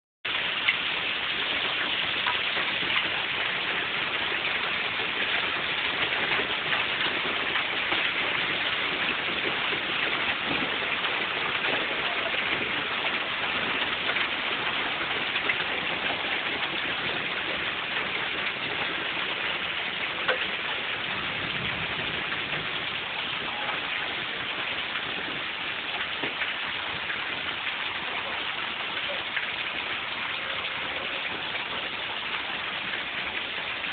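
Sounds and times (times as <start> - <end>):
heavy rain pouring: 0.3 - 33.9.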